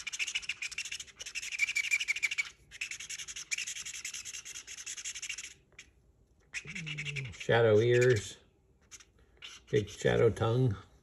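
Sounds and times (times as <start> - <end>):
marker scribbling on cardboard: 0.0 - 5.9, 6.6 - 10.5.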